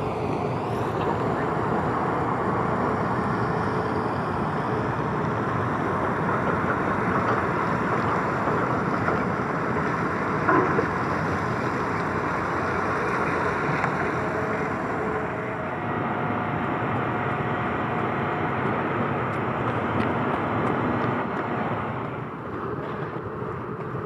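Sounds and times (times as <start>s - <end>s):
distant construction machinery: 0.0s - 24.0s.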